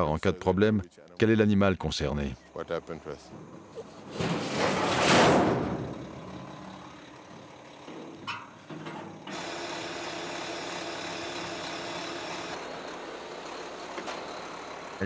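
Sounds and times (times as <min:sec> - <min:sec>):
truck diesel engine running: 0:02.4 - 0:15.0.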